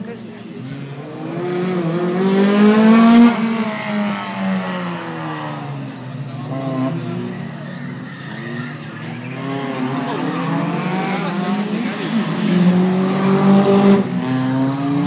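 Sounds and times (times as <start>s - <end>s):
car engine accelerating hard: 0.5s - 15.0s.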